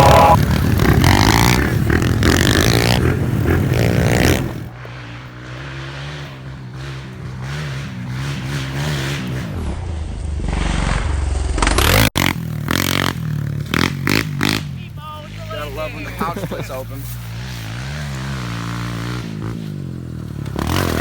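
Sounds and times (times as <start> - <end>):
pit bike engine revving: 0.0 - 21.0.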